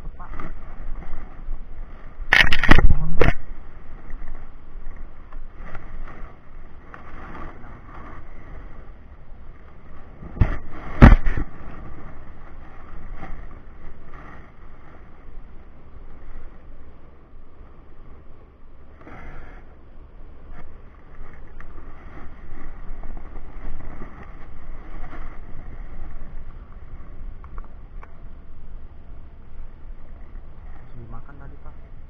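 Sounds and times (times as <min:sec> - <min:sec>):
wind rumble on microphone: 0:00.0 - 0:32.0.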